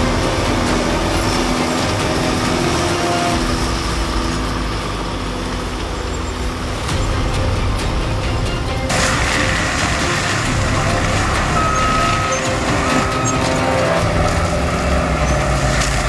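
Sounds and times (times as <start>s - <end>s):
heavy machine drone: 0.0s - 16.0s.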